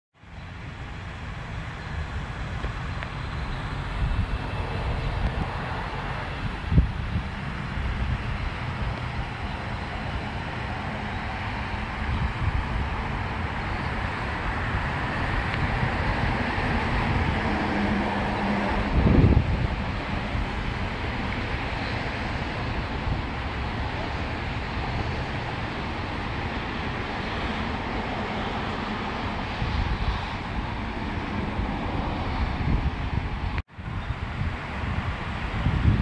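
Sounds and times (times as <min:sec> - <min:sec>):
vehicle running: 0:00.2 - 0:36.0
wind rumble on microphone: 0:00.2 - 0:36.0.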